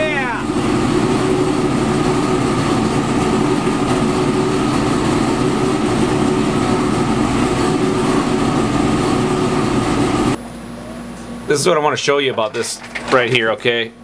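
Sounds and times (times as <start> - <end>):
machinery running with hum: 0.0 - 12.1.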